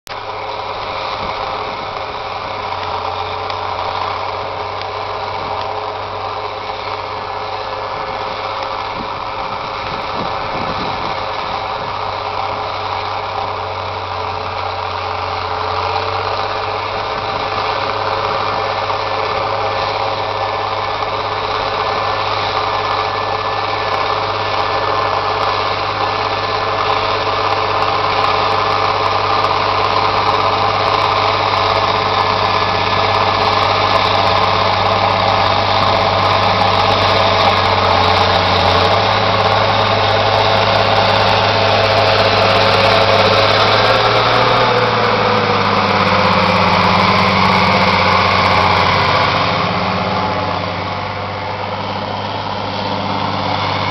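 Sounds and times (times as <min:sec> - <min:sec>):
diesel tractor working under load: 0:00.1 - 0:53.9.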